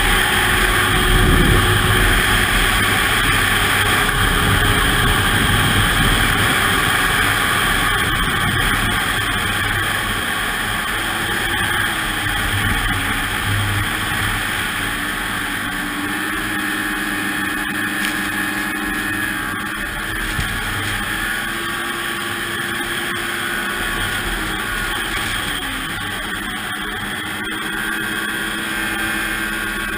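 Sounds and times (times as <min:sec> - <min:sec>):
snowmobile engine running: 0:00.0 - 0:29.9
wind rush on microphone: 0:00.0 - 0:29.9.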